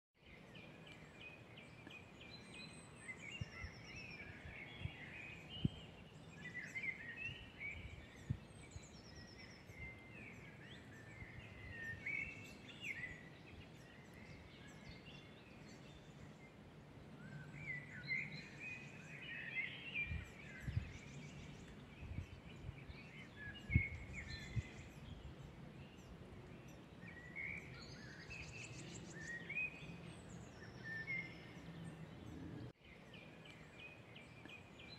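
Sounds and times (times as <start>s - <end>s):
songbirds singing and calling: 0.2s - 34.9s.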